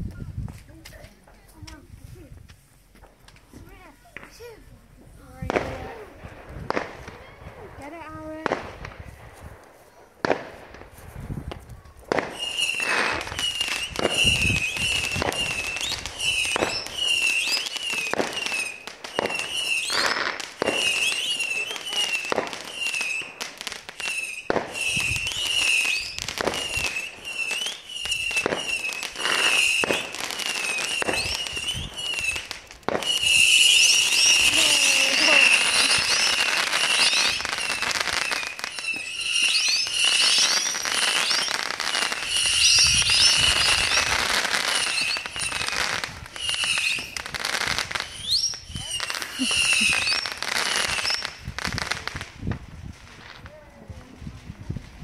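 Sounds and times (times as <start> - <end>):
fireworks crackle: 0.0 - 55.0
fireworks bangs: 0.4 - 55.0
fireworks whistling: 5.2 - 53.4.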